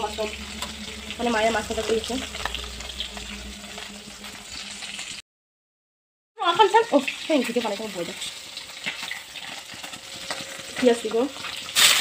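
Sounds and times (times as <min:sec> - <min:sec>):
hot oil sizzling: 0:00.0 - 0:05.2, 0:06.4 - 0:12.0.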